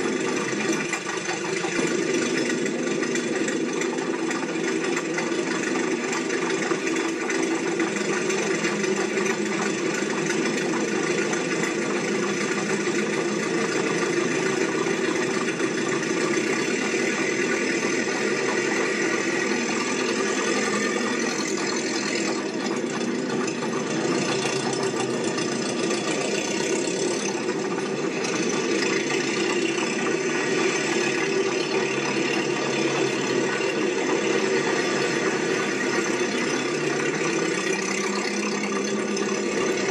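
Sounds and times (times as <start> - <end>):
engine-like machine running with rattle: 0.0 - 39.9.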